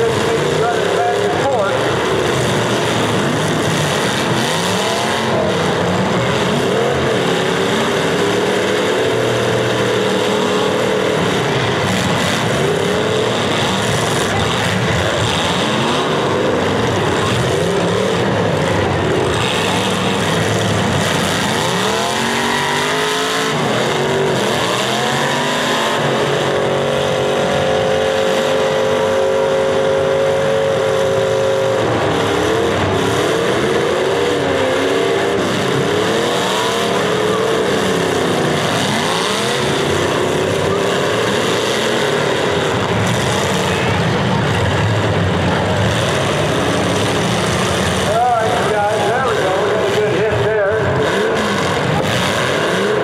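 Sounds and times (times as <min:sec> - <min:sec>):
car engines revving hard: 0:00.0 - 0:53.0
cars ramming each other: 0:00.0 - 0:53.0.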